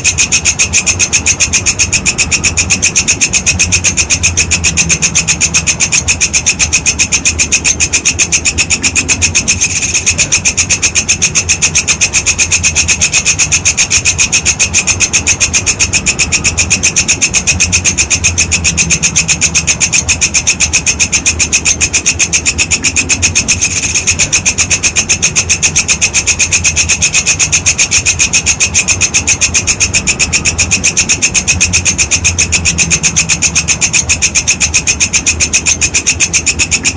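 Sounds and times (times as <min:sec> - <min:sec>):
insect rasping trill: 0:00.0 - 0:36.9.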